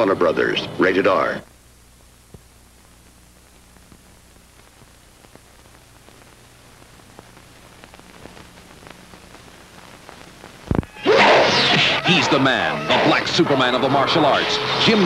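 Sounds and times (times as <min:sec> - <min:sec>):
record crackles and pops: 0:00.0 - 0:15.0
tape hiss: 0:00.0 - 0:15.0.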